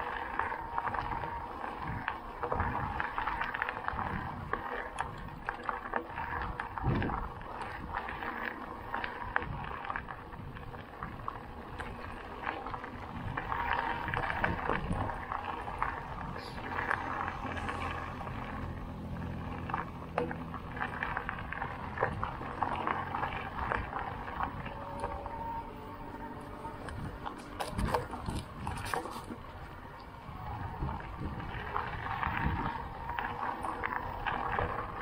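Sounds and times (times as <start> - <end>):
bike rattling and clicking: 0.0 - 35.0
tyres crunching on trail: 0.0 - 35.0.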